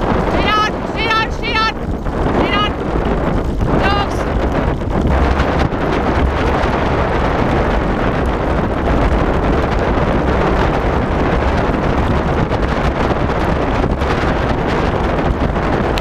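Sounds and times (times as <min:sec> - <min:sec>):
rig rolling low rumble: 0:00.0 - 0:16.0
wind buffeting microphone: 0:00.0 - 0:16.0.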